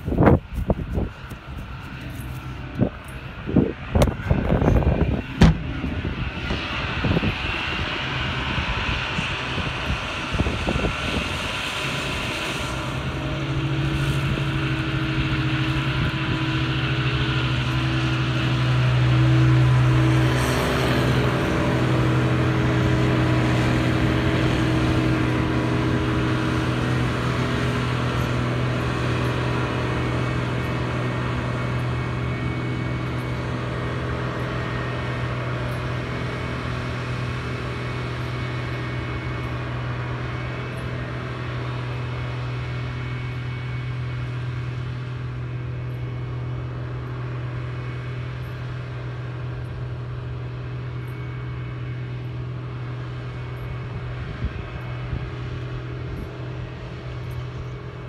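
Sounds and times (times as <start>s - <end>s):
diesel engine hum: 0.0s - 58.0s.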